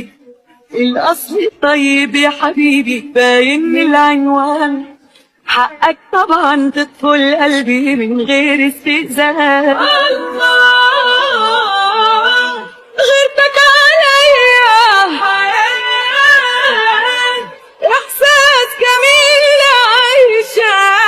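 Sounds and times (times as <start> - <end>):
woman singing wordless notes: 0.0 - 21.0.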